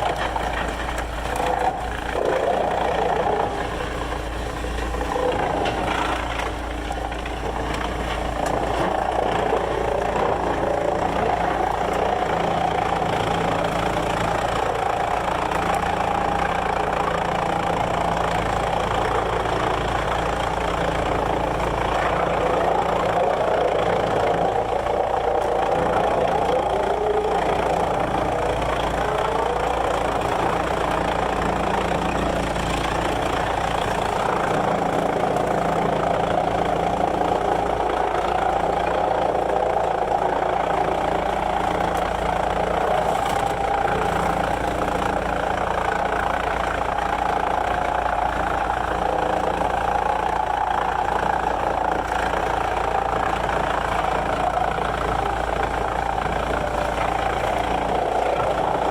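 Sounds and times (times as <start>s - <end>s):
sawmill machinery drone: 0.0s - 58.9s.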